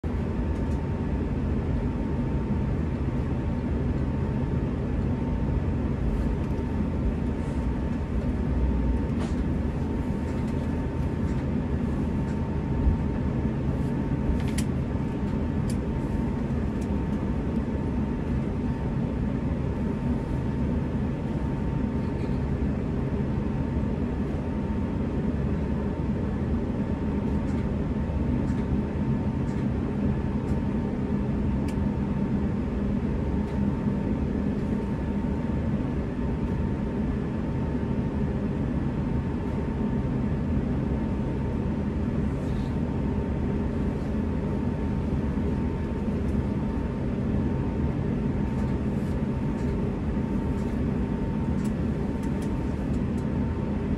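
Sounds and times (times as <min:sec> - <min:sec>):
airliner cabin rumble: 0:00.0 - 0:53.9
faint steady whine: 0:00.1 - 0:53.9.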